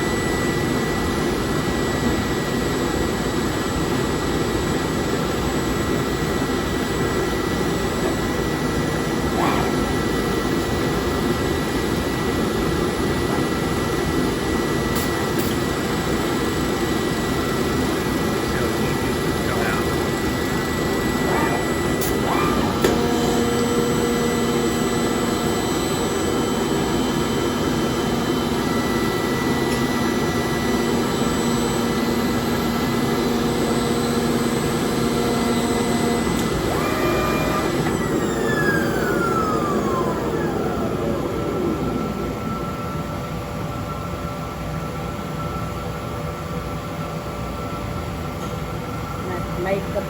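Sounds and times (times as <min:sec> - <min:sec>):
motor whine: 0:00.0 - 0:46.1
factory machinery roar: 0:00.0 - 0:50.0.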